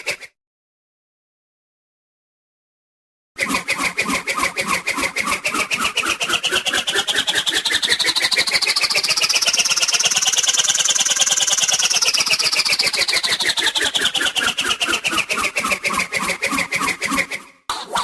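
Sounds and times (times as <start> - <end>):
cartoon whoosh pulsing whir: 3.4 - 18.0.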